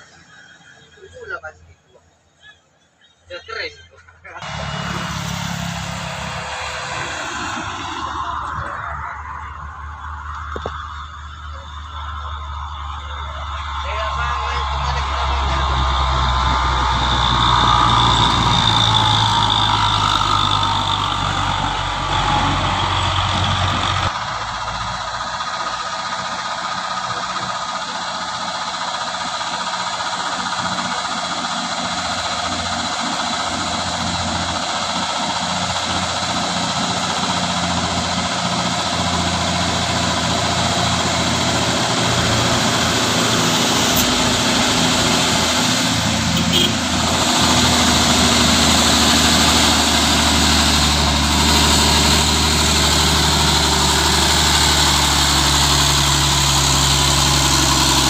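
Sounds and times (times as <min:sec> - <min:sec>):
truck engine under load: 0:00.0 - 0:58.0.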